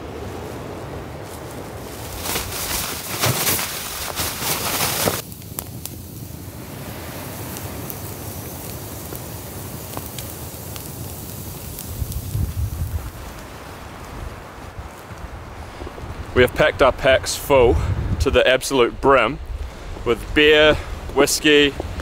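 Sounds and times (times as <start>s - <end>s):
gusty wind rushing: 0.0s - 22.0s
campfire crackling and popping: 0.2s - 22.0s.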